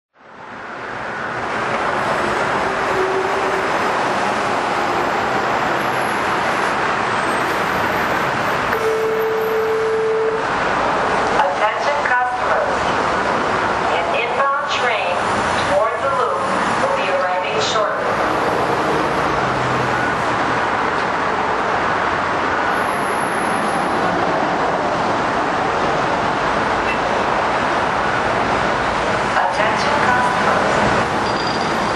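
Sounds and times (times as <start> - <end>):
expressway traffic roar: 0.2 - 31.9.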